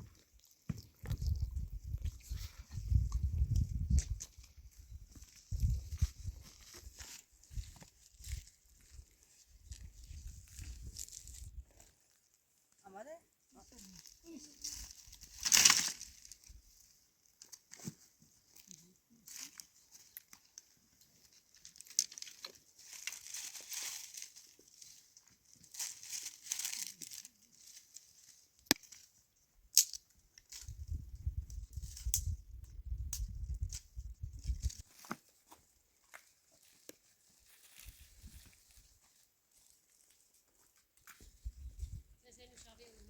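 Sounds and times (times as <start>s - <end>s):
rustling and crinkling: 0.0s - 12.8s, 13.6s - 43.0s.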